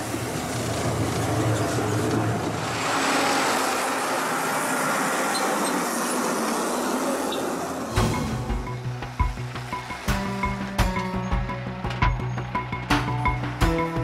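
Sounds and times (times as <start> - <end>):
bus engine drone: 0.0 - 14.0
tyres on dirt road: 0.0 - 14.0.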